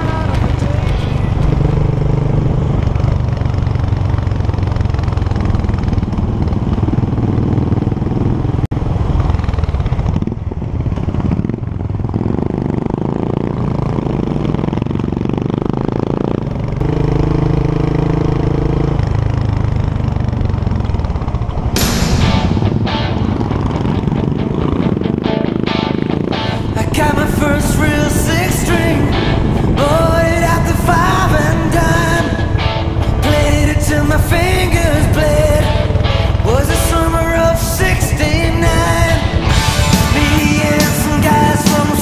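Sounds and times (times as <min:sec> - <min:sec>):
motorcycle engine running: 0:00.0 - 0:42.0
road and wind noise: 0:00.0 - 0:42.0.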